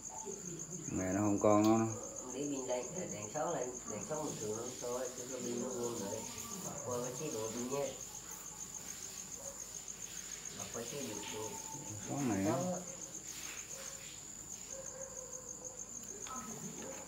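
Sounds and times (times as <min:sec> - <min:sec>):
insect trilling: 0:00.0 - 0:17.0.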